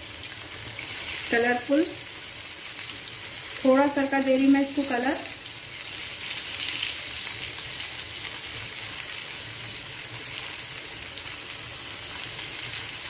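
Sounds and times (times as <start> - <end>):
meat sizzling on grill pan: 0.0 - 13.0.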